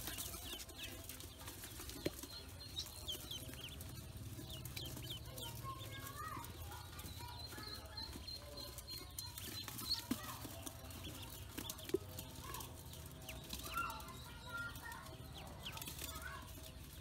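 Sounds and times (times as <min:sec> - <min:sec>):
beaks tapping metal bowl: 0:00.0 - 0:17.0
ducklings peeping: 0:00.0 - 0:17.0.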